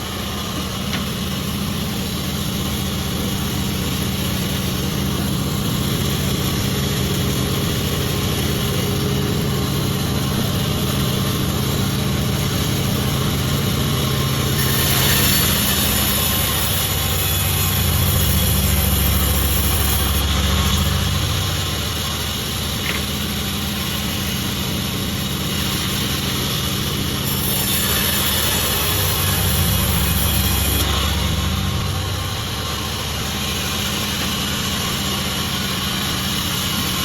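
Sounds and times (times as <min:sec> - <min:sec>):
saw cutting wood hiss: 0:00.0 - 0:37.0
sawmill humming: 0:00.0 - 0:37.0.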